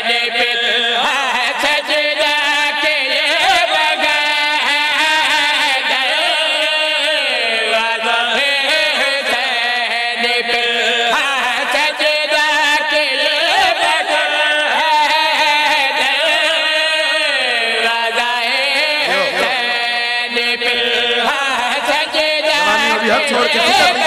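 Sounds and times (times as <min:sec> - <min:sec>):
man singing through microphone: 0:00.0 - 0:24.0.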